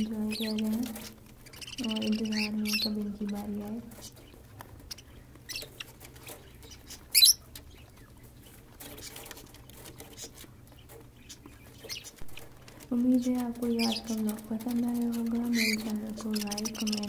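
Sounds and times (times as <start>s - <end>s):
parrots chirping faintly: 0.0s - 17.0s.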